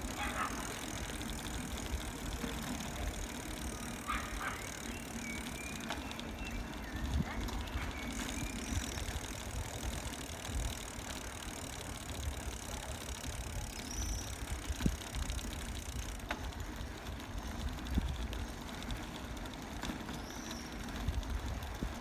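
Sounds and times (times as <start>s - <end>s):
bicycle clicks and rattles: 0.0s - 22.0s
bicycle road noise: 0.0s - 22.0s.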